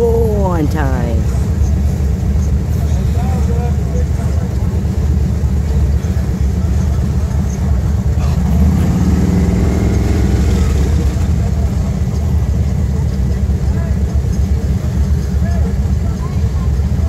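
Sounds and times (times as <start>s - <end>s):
train wheels rumbling on rails: 1.2s - 17.0s.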